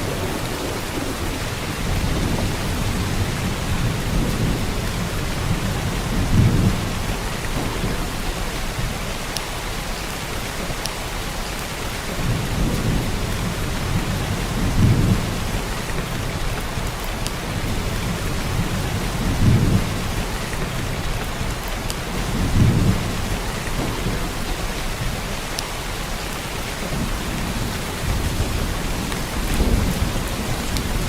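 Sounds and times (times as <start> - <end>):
heavy rain downpour: 0.0 - 31.0
thunder rumbling: 0.0 - 31.0.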